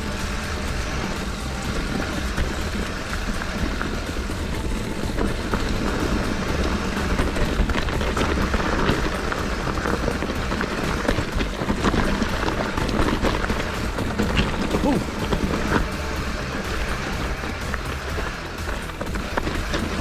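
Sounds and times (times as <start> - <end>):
bike clicking and rattling: 0.0 - 20.0
tyres rolling over stones: 0.0 - 20.0.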